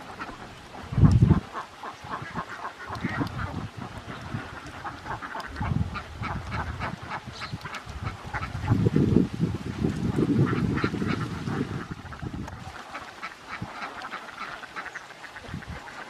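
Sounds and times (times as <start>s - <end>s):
ducks quacking: 0.0s - 9.1s, 10.0s - 16.0s.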